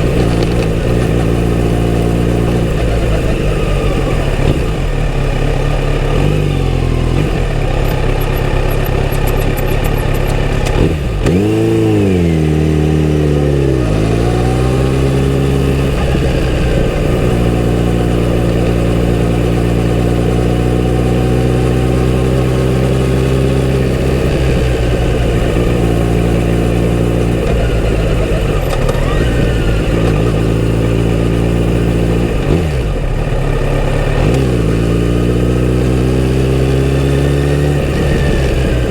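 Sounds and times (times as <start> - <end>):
motorcycle engine revving and shifting: 0.0 - 38.9.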